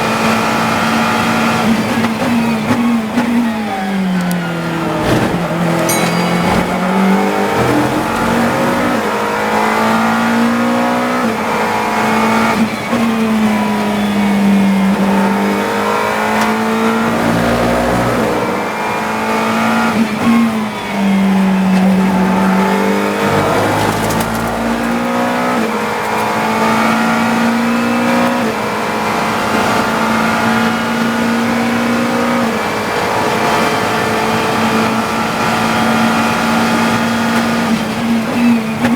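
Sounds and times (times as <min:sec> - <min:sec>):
race car engine shifting gears: 0:00.0 - 0:38.9.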